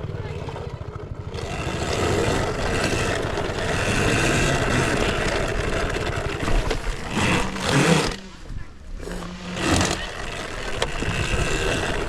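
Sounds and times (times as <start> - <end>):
off-road vehicle rushing: 0.0 - 12.0
wind noise: 2.2 - 12.0.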